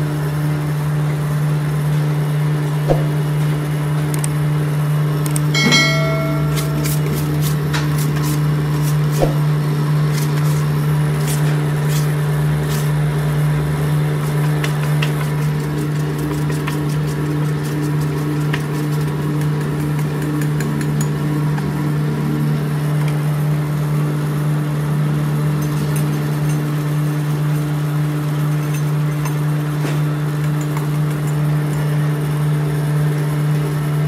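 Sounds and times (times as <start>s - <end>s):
machine drone with low hum: 0.0s - 34.0s.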